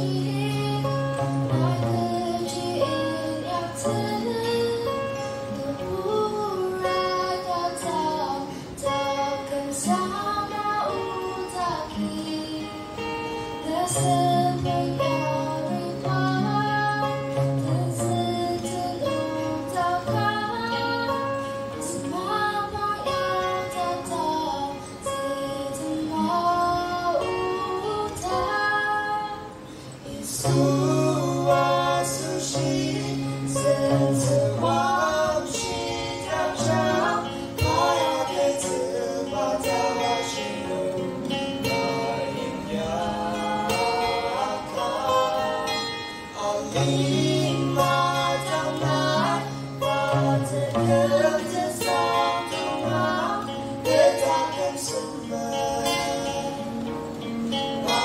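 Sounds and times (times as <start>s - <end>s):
person singing gospel song: 0.0s - 13.0s, 13.6s - 58.0s
acoustic guitar: 0.0s - 58.0s.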